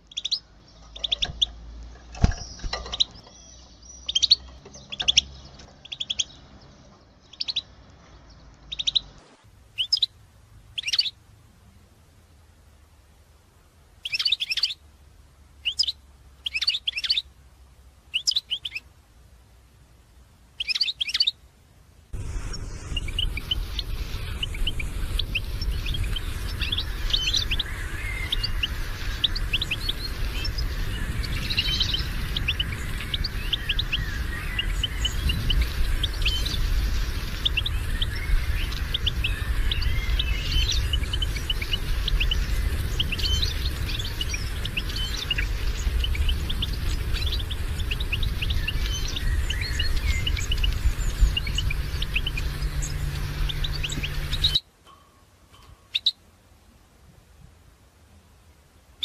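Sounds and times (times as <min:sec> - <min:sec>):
birds twittering: 0:00.0 - 0:10.2, 0:10.8 - 0:11.2, 0:14.0 - 0:14.8, 0:15.6 - 0:17.3, 0:18.1 - 0:18.9, 0:20.6 - 0:21.4, 0:22.2 - 0:56.2
steady low rumble and hiss: 0:00.0 - 0:59.0.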